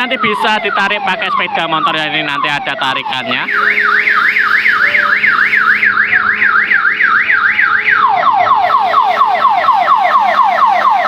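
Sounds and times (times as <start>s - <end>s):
electronic siren wailing: 0.0s - 11.0s.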